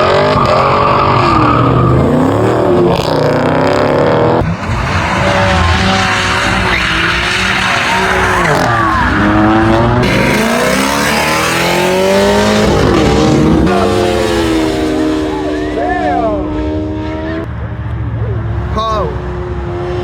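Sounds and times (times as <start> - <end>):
tyres spinning and squealing: 0.0 - 16.5
car engine revving hard: 0.0 - 17.5.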